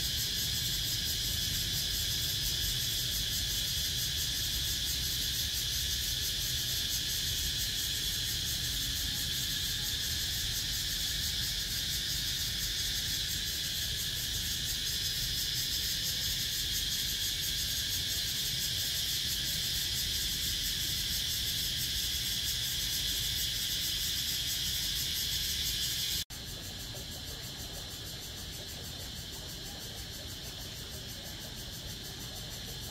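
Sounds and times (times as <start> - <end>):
cicadas chorus: 0.0 - 32.9.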